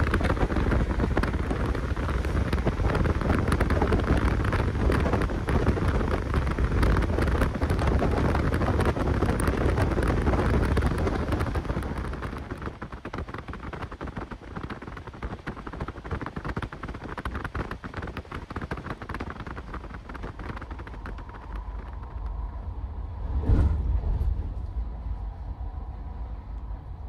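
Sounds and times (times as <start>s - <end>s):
train wheels rumbling on rails: 0.0s - 27.0s
wind buffeting microphone: 0.0s - 27.0s.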